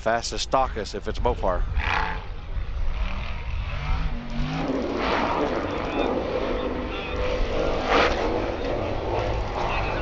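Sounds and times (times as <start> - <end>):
buggy engine revving: 1.8 - 10.0.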